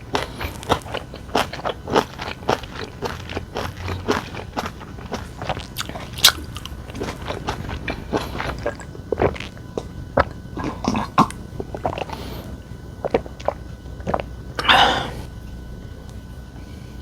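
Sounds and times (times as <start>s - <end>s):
person chewing food: 0.0s - 15.4s.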